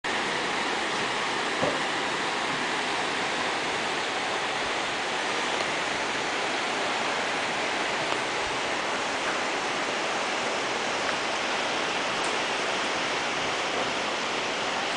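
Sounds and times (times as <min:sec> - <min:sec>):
floodwater rushing: 0:00.1 - 0:14.9.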